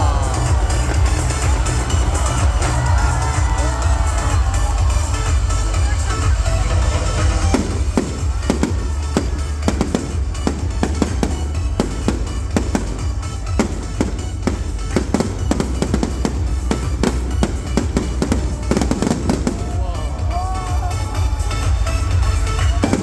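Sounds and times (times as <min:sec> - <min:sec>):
fireworks bangs: 0:00.0 - 0:23.0
loud music with heavy bass: 0:00.0 - 0:23.0.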